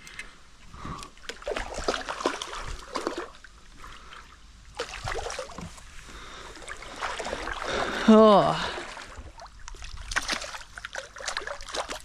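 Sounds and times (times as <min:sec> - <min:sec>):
water splashing and dripping: 0:01.2 - 0:05.9, 0:06.6 - 0:12.0.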